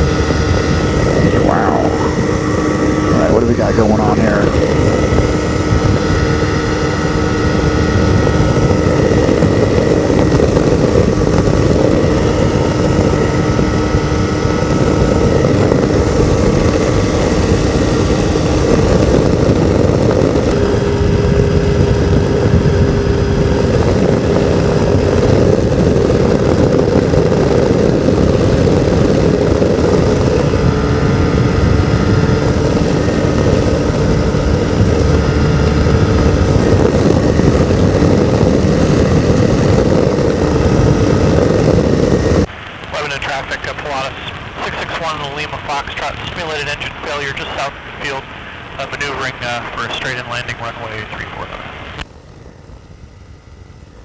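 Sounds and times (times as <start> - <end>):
wind rush: 0.0 - 52.8
ultralight engine and propeller: 0.0 - 54.0.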